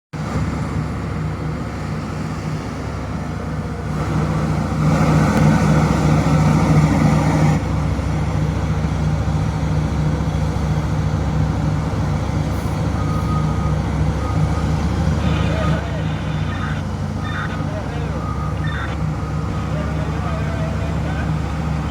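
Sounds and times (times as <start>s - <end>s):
heavy diesel machine engine running: 0.2s - 21.9s.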